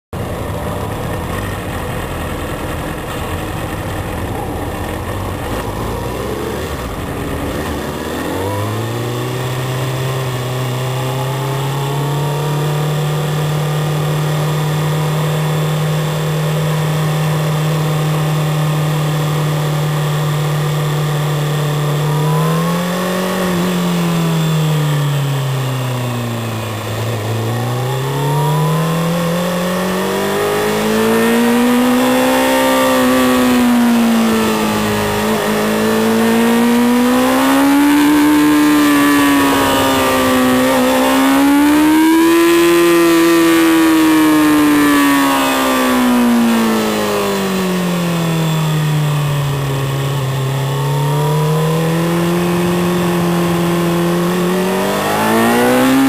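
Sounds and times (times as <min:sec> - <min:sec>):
motorcycle engine revving: 0:00.1 - 0:56.0.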